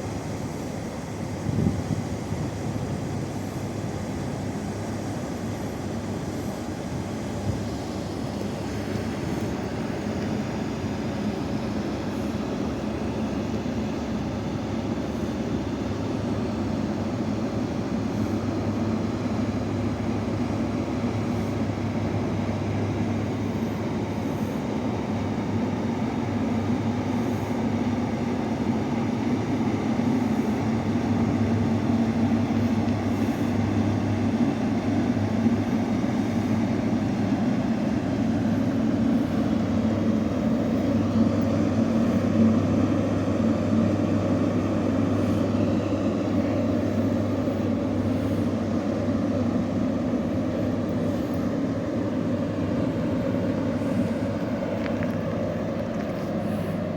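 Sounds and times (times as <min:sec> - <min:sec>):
ship's engine droning: 0:00.0 - 0:56.9.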